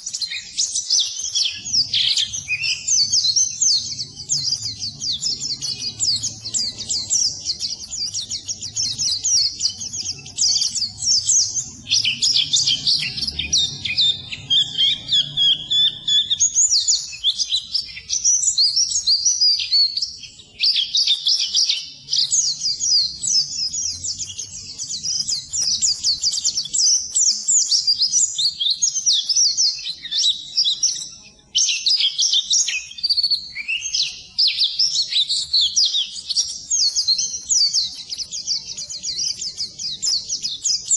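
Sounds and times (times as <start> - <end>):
bird twittering chirps: 0.0 - 40.9.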